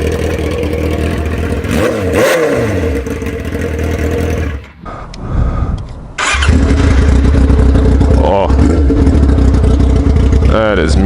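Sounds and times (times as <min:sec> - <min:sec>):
motorcycle engine revving and idling: 0:00.0 - 0:04.8, 0:06.2 - 0:11.0.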